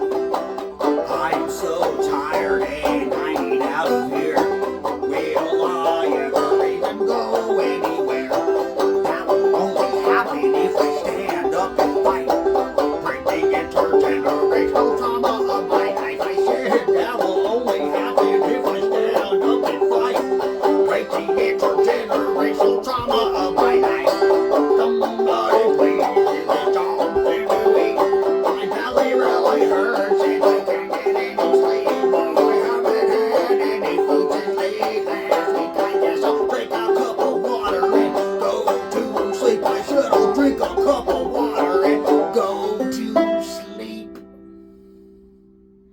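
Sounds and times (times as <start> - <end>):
banjo picking fast notes: 0.0 - 45.9
bluegrass string band song: 0.0 - 45.9.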